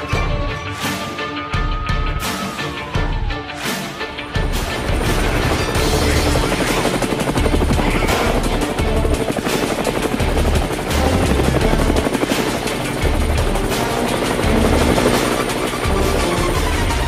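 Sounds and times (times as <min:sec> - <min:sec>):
music with heavy pulsing beat: 0:00.0 - 0:17.0
helicopter rotors beating: 0:03.1 - 0:17.0.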